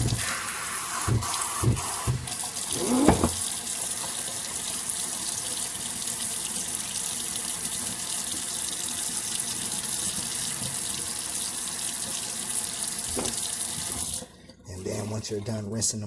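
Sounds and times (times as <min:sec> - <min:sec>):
water tap running into sink: 0:00.0 - 0:15.5.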